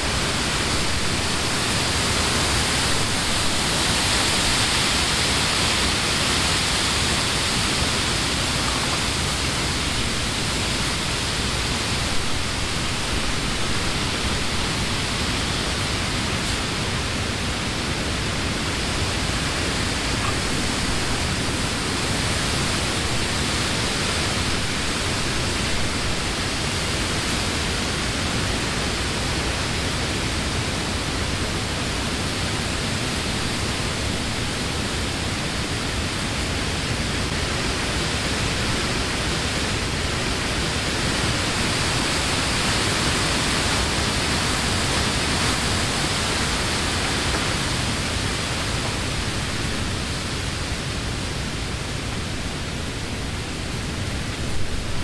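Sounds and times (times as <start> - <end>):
wind blowing through tree leaves: 0.0 - 55.0.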